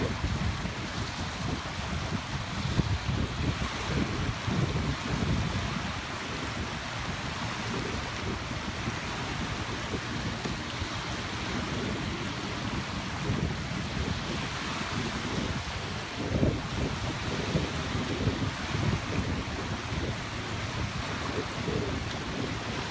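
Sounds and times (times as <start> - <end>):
small waves breaking: 0.0 - 22.9
wind gusting on microphone: 0.0 - 22.9.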